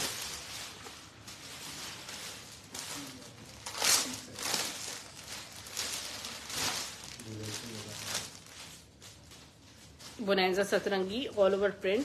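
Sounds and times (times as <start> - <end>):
clothes packaging rustling: 0.0 - 12.0.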